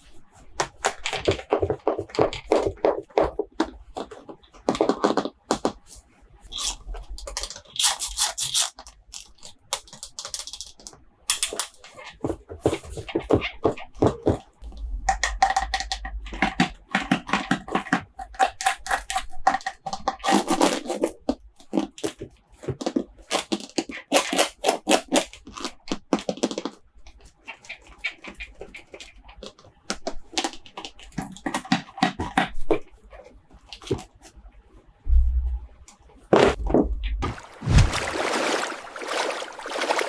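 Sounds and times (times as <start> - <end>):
plastic toys clicking and tapping: 0.6 - 33.0.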